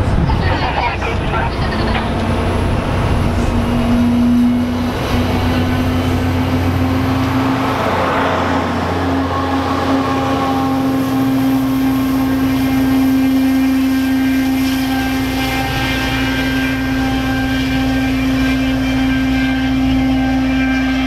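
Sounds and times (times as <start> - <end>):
diesel locomotive engine: 0.0 - 21.0
high whining tones: 0.2 - 21.0.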